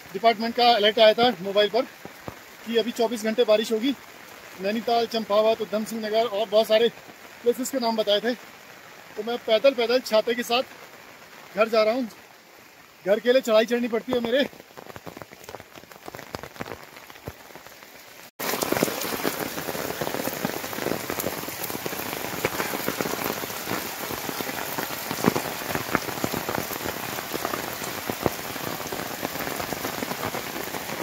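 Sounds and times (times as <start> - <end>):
heavy rain on an umbrella: 0.0 - 31.0.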